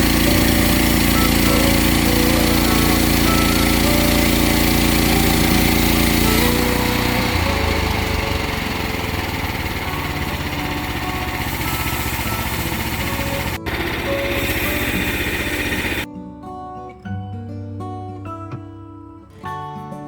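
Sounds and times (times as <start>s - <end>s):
small gasoline engine running: 0.0s - 16.1s.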